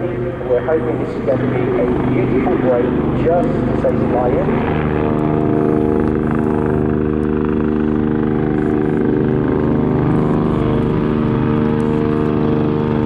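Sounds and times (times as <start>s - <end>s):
aircraft and helicopters droning: 0.0s - 13.0s.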